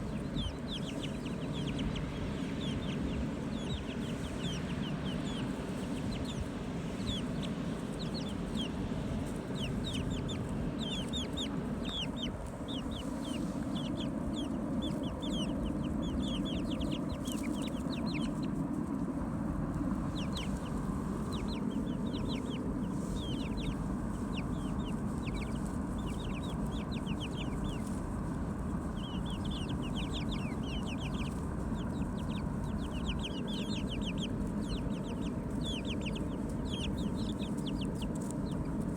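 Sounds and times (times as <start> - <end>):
chickens calling: 0.0 - 38.9
low background noise: 0.0 - 38.9.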